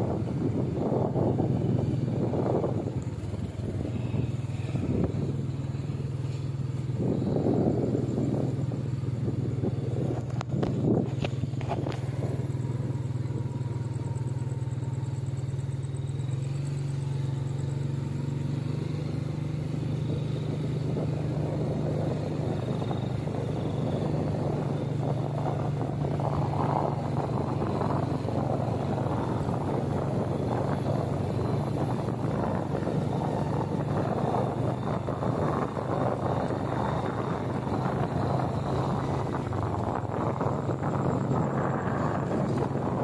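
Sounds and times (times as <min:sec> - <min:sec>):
wind noise on microphone: 0:00.0 - 0:15.2, 0:16.4 - 0:43.0
small motorcycle engine running: 0:00.0 - 0:43.0.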